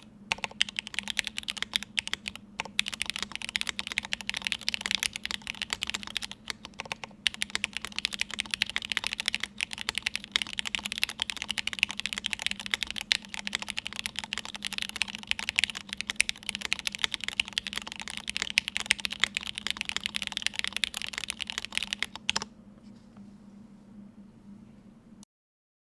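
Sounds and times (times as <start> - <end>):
mechanical keyboard typing: 0.0 - 22.5
faint steady hum: 0.0 - 25.3.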